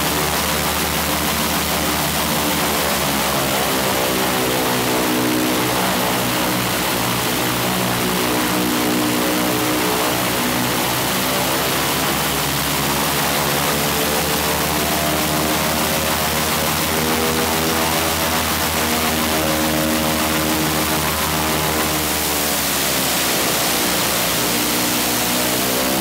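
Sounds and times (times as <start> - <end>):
radial aero engine running: 0.0 - 26.0.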